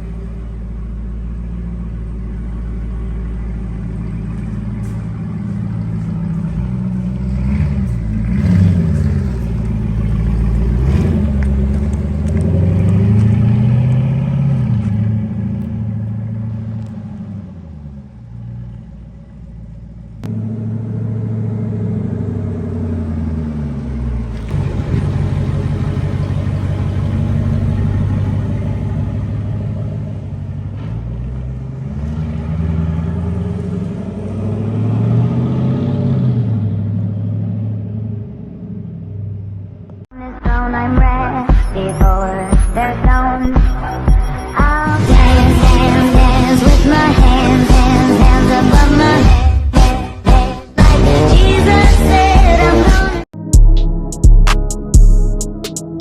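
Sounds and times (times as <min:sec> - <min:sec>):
loud vee eight engine revving: 0:03.2 - 0:18.8, 0:20.2 - 0:39.8, 0:40.8 - 0:53.3.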